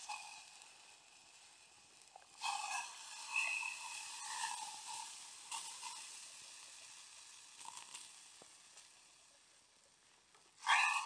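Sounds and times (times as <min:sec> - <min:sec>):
beans sizzling in a hot pot: 0:00.0 - 0:11.0
faint crackles: 0:00.0 - 0:11.0.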